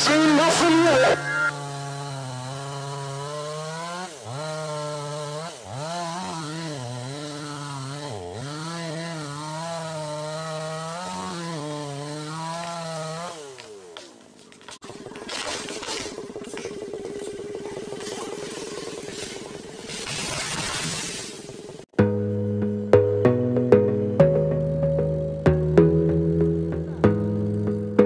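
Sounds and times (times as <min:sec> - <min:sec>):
chainsaw cutting wood: 0:00.0 - 0:21.9, 0:25.0 - 0:28.0.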